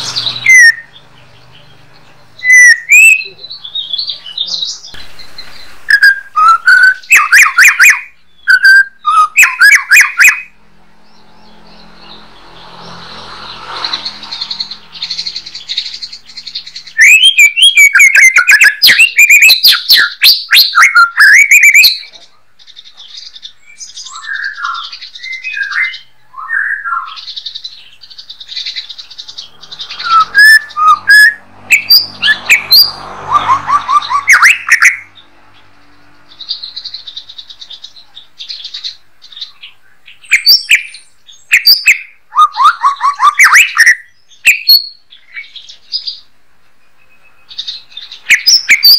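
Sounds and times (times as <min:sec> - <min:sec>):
bird singing whistles and chatters: 0:00.0 - 0:10.5, 0:13.9 - 0:35.2, 0:36.4 - 0:48.9.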